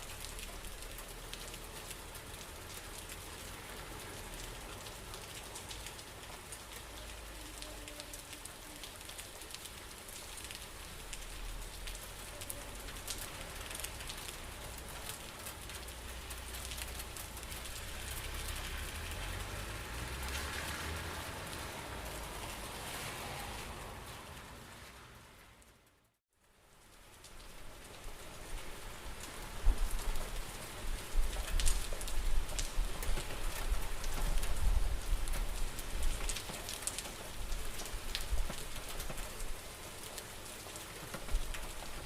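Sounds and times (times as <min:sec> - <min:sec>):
raindrops ticking on a surface: 0:00.0 - 0:25.0, 0:25.6 - 0:42.0.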